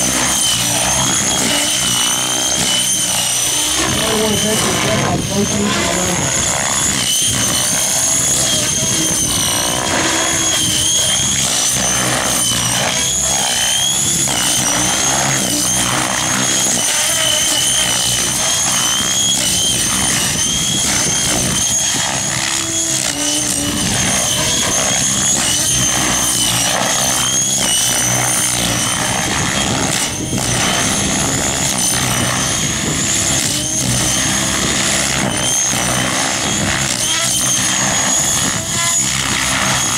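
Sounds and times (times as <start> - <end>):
rc helicopter high whine: 0.0 - 39.9.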